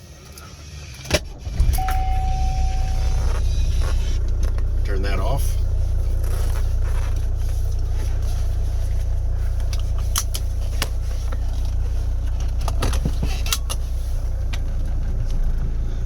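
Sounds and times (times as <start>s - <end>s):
diesel engine idling: 1.2s - 16.0s.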